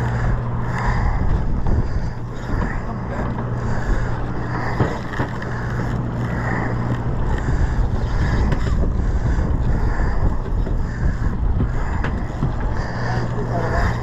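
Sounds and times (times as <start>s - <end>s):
boat engine humming: 0.0s - 14.0s
wind buffeting microphone: 0.0s - 14.0s.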